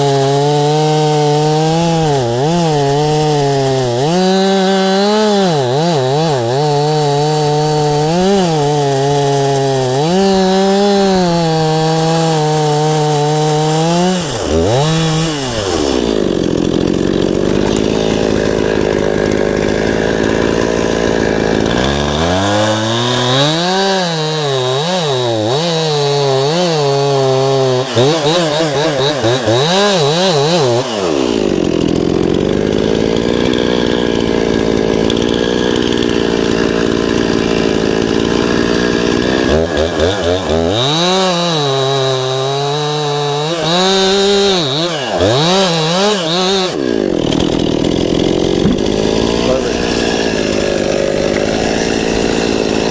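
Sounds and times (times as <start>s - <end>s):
chainsaw cutting wood: 0.0s - 52.9s
chainsaw idling: 0.0s - 52.9s.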